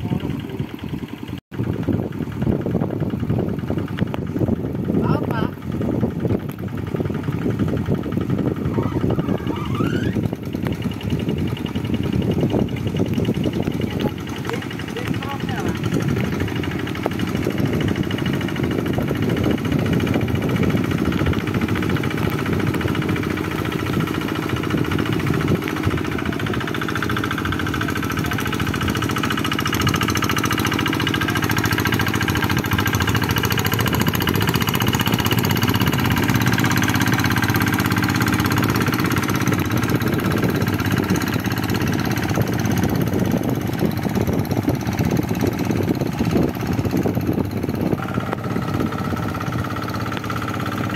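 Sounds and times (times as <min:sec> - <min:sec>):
diesel engine knocking under load: 0:00.0 - 0:50.9.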